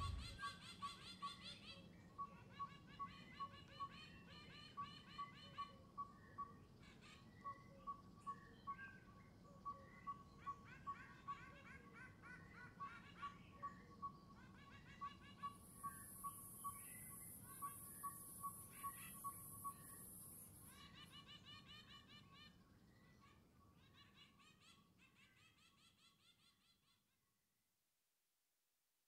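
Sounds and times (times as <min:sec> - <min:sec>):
birds chirping: 0:00.0 - 0:25.5.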